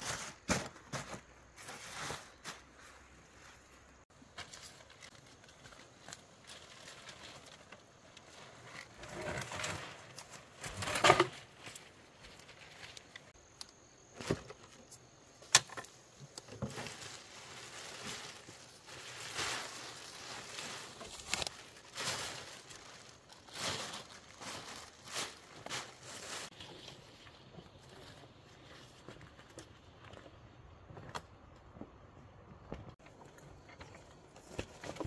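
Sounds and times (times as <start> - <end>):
rustling and crackling: 0.0 - 31.3.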